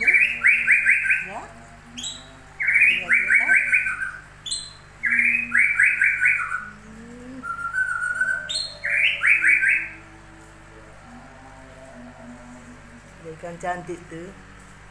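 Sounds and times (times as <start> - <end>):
songbird singing: 0.0 - 14.4.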